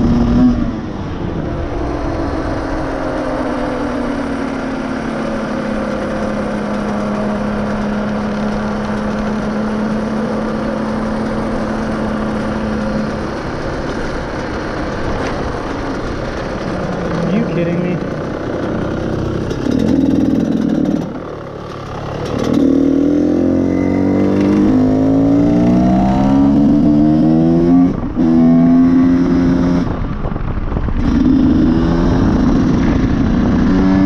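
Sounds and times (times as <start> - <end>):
off-road vehicle engine: 0.0 - 34.0.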